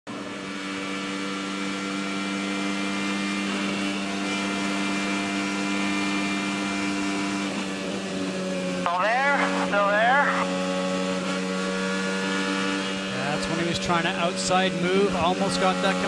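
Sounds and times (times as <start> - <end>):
race car engine at high revs: 0.1 - 16.0.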